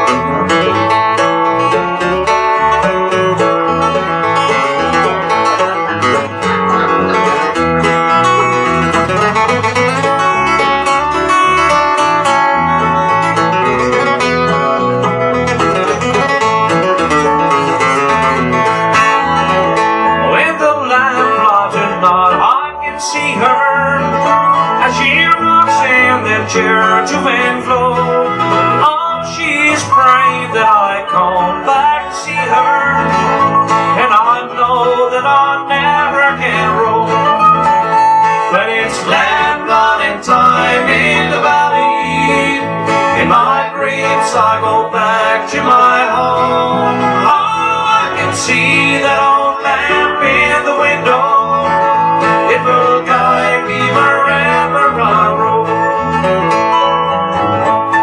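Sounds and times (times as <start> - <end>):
acoustic guitar strumming: 0.0 - 58.0
picked mandolin: 0.0 - 58.0.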